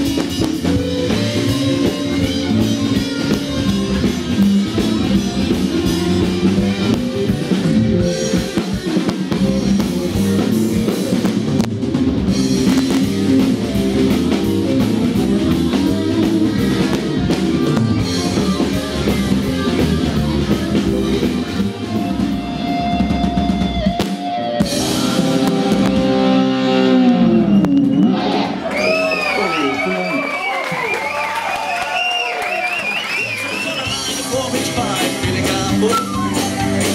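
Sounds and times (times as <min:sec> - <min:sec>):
drum kit: 0:00.0 - 0:29.2, 0:33.0 - 0:36.9
bass guitar: 0:00.0 - 0:30.2, 0:30.8 - 0:36.9
electric guitar: 0:00.0 - 0:36.9.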